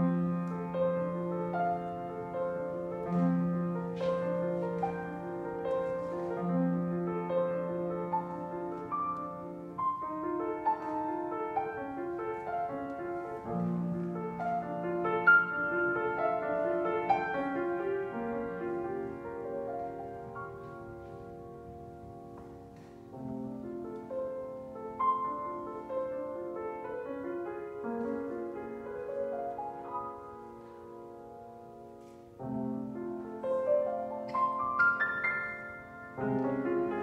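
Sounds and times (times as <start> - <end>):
grand piano playing: 0.0 - 37.0.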